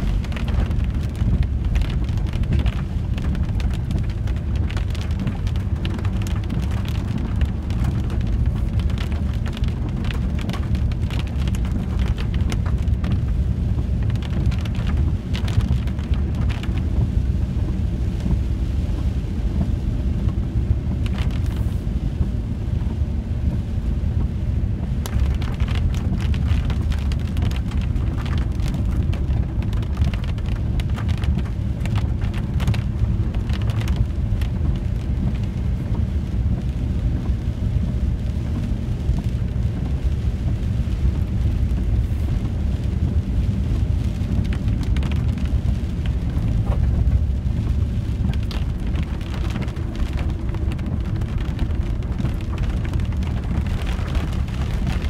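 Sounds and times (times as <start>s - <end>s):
engine and tyres rumbling: 0.0s - 55.0s
raindrops tapping windscreen: 0.0s - 55.0s.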